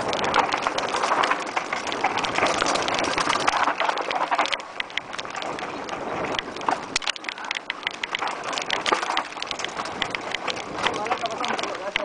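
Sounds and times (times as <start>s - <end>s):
bike rattling over bumps: 0.0s - 12.0s
bike tyres crunching over dirt: 0.0s - 12.0s.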